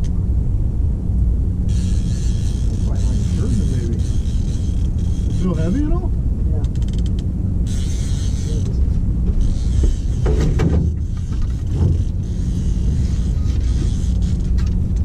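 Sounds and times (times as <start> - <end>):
outboard motor rumbling: 0.0 - 15.0
wind: 0.0 - 15.0.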